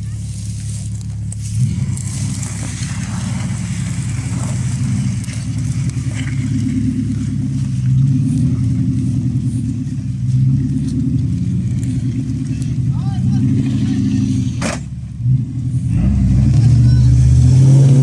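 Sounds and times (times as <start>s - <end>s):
suv engine running under load: 0.0s - 18.0s.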